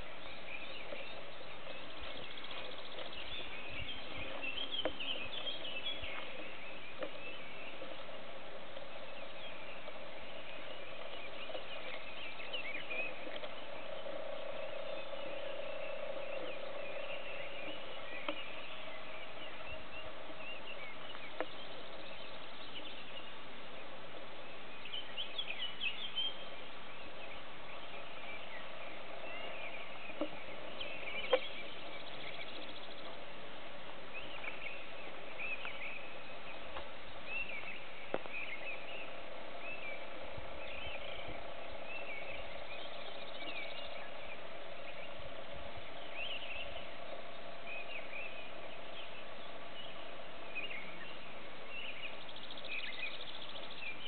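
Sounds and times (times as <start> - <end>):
songbirds singing: 0.0 - 54.0
steady background hiss: 0.0 - 54.0.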